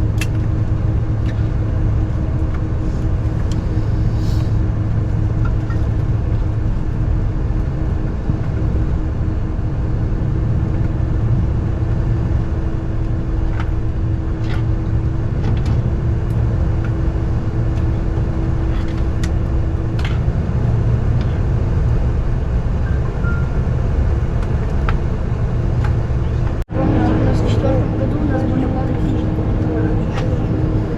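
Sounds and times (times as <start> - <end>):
aircraft engine rumble: 0.0 - 30.9
steady hum: 0.0 - 30.9.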